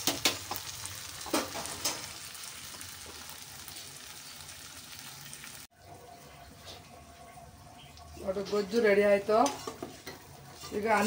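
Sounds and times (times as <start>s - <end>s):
gravy sizzling in oil: 0.0s - 11.0s.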